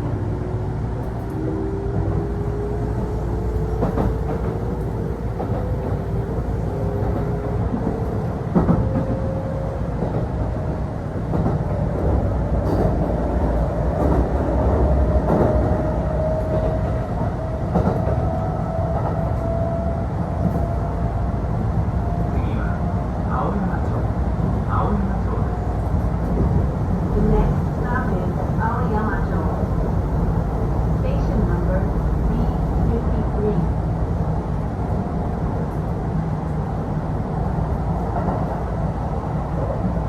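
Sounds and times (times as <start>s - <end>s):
electric train rumble and whine: 0.0s - 40.0s.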